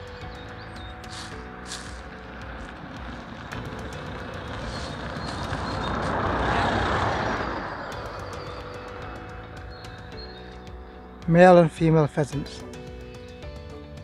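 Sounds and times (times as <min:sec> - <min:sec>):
road vehicle passing by: 0:00.0 - 0:11.6.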